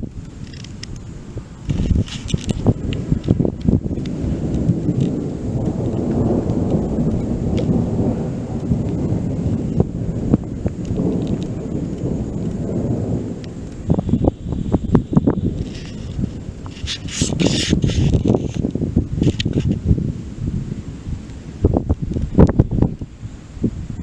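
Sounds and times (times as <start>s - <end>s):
rolling thunder: 0.0s - 24.0s.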